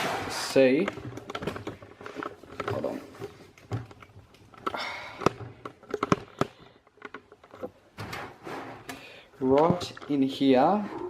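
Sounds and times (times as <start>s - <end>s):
sharp clicks and knocks: 0.0s - 10.3s.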